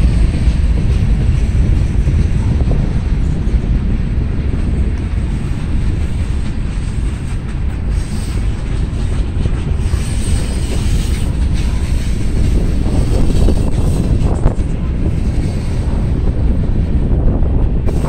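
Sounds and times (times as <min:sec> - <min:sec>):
train wheels rumbling on rails: 0:00.0 - 0:18.0
wind buffeting microphone: 0:00.0 - 0:18.0.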